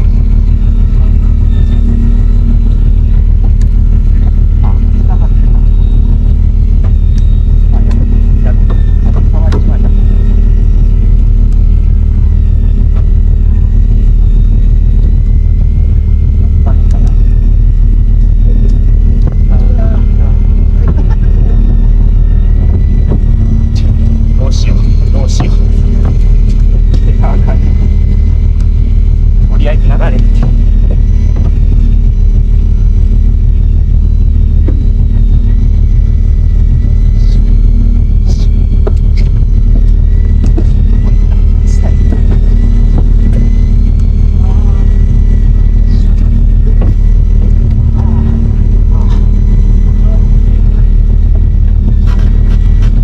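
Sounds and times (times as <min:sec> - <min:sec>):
boat engine droning: 0:00.0 - 0:53.0
faint thin whine: 0:00.0 - 0:53.0.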